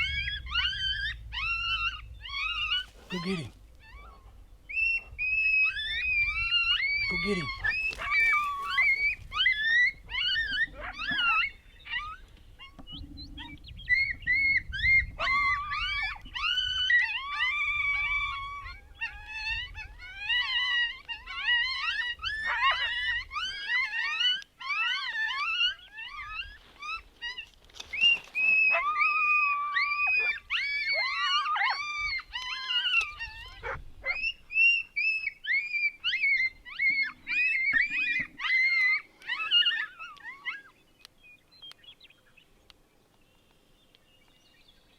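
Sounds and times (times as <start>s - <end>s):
coyotes yipping and howling: 0.0s - 42.7s.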